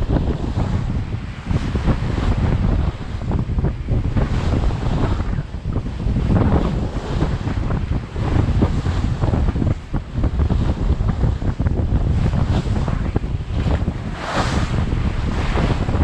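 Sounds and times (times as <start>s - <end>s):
water and waves rushing: 0.0s - 16.0s
wind buffeting microphone: 0.0s - 16.0s.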